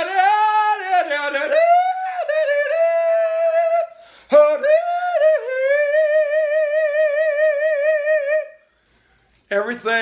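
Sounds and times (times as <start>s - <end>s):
man yodeling in falsetto: 0.0s - 8.6s.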